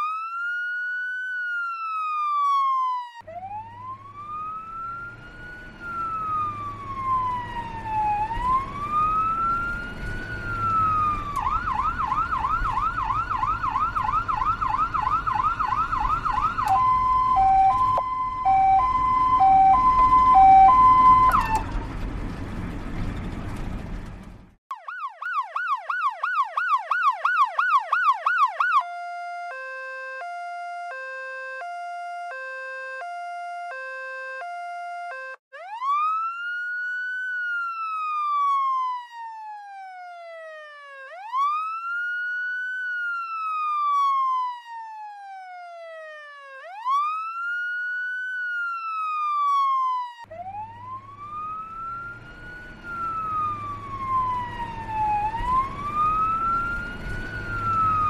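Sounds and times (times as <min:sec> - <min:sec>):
emergency vehicle siren: 0:00.0 - 0:23.7, 0:24.6 - 0:58.0.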